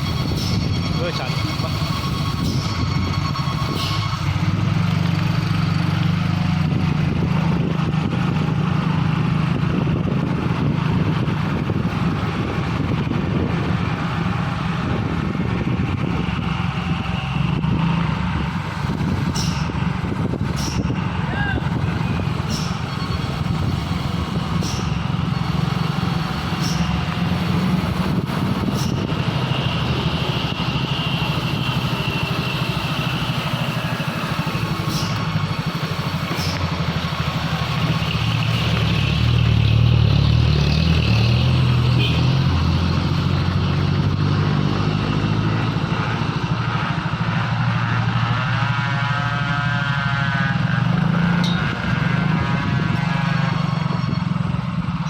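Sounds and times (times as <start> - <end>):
vehicle engines passing: 0.0 - 55.0.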